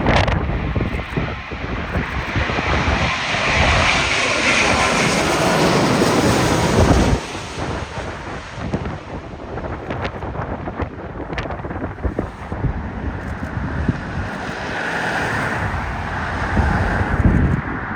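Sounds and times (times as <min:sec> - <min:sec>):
jet engines roaring: 0:00.0 - 0:17.9
wind buffeting microphone: 0:00.0 - 0:17.9.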